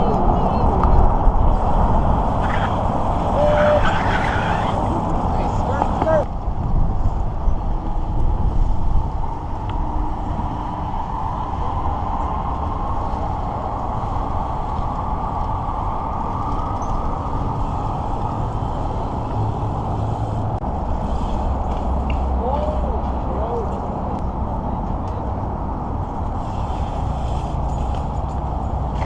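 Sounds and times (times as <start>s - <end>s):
road noise: 0.0s - 29.0s
wind rumble and hiss: 0.0s - 29.0s.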